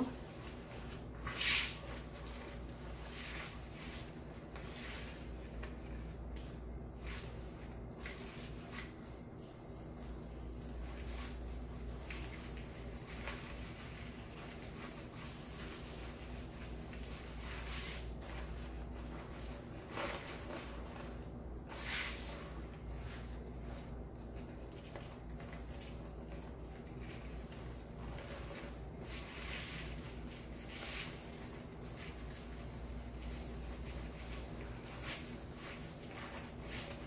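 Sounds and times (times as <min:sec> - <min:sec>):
low steady hum: 0:00.0 - 0:37.0
ribbon and mesh crinkling: 0:00.0 - 0:37.0.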